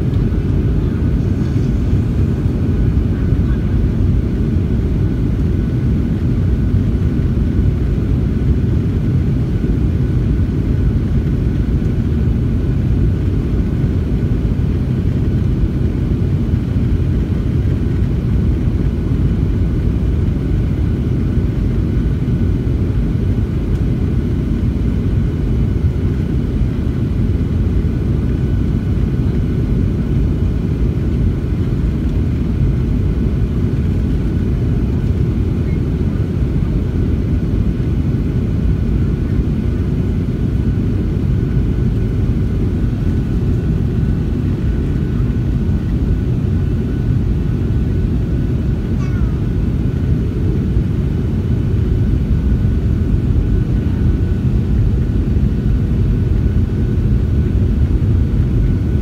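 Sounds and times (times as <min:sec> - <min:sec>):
airliner cabin rumble: 0:00.0 - 0:59.0
faint steady whine: 0:00.0 - 0:59.0.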